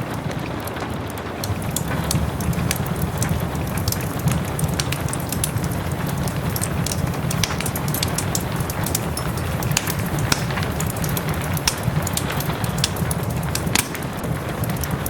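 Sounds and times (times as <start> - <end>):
rushing rain: 0.0 - 15.0
wood fire crackling and popping: 0.0 - 15.0.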